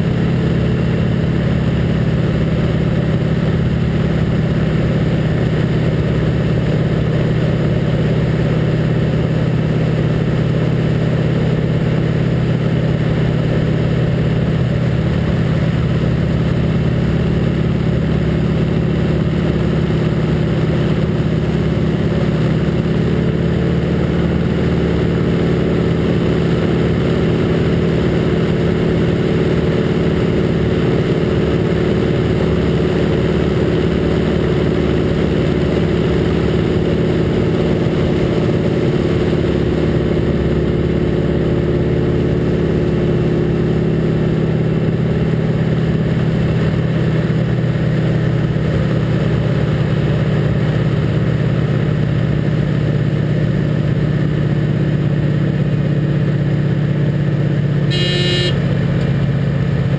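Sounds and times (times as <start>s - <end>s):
radial aircraft engine droning: 0.0s - 59.9s.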